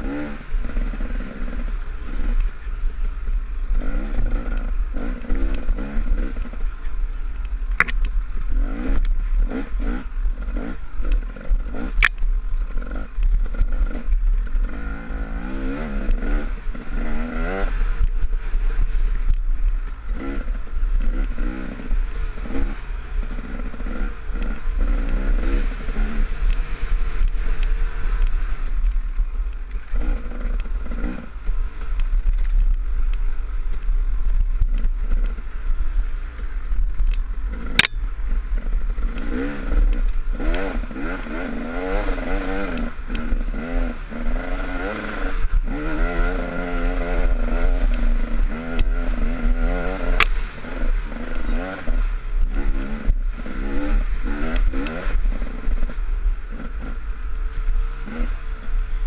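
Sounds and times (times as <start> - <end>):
dirt bike engine revving: 0.0 - 7.2, 7.8 - 32.7, 37.4 - 59.0.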